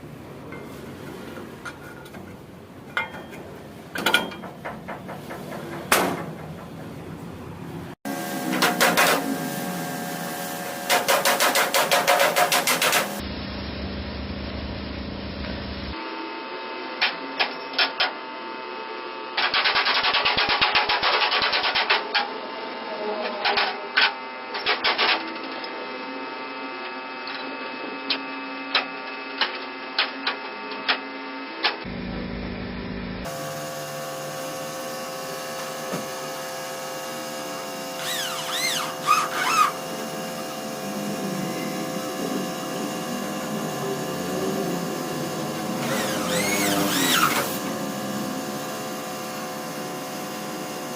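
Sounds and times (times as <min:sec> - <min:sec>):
steady mechanical hum: 0:00.0 - 0:50.9.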